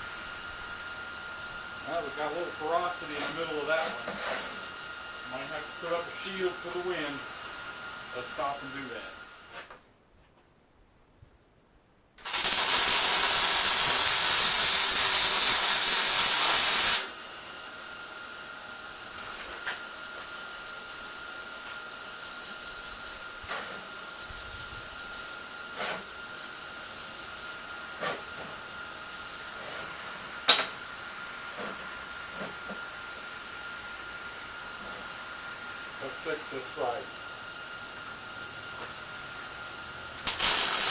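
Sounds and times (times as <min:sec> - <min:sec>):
loud steady hiss: 0:00.0 - 0:09.7, 0:12.2 - 0:40.9.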